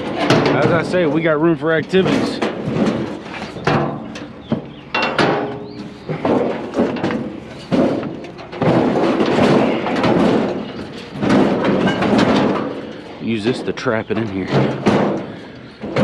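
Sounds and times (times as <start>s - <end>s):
metal knocks and clanks: 0.0s - 16.0s
metal rattling and scraping: 0.0s - 16.0s.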